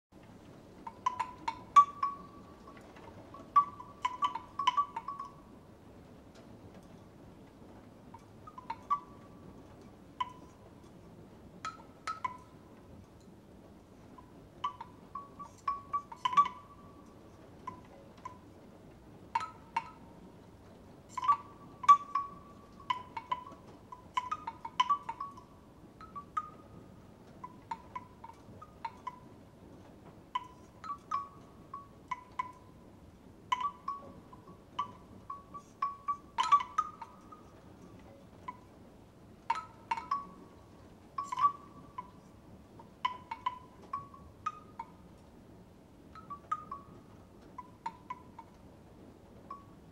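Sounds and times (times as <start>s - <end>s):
bamboo wind chimes knocking: 0.7s - 5.7s, 8.1s - 11.0s, 11.6s - 18.6s, 19.3s - 20.2s, 21.0s - 45.3s, 46.1s - 48.7s, 49.4s - 49.9s.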